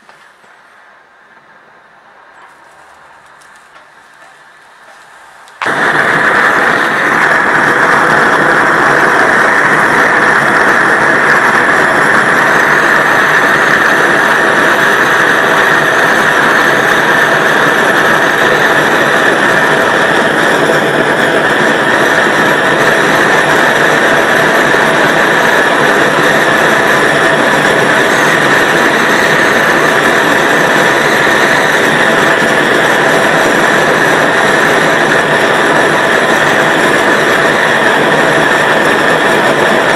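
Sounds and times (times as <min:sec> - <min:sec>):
gas torch hissing: 0:00.0 - 0:01.6, 0:02.4 - 0:39.9.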